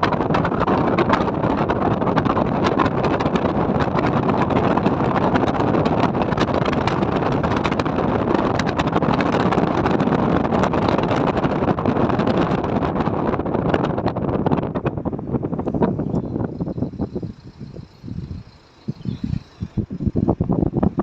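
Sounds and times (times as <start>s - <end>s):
moving vehicle rushing noise: 0.0s - 21.0s
wind buffeting microphone: 0.0s - 21.0s.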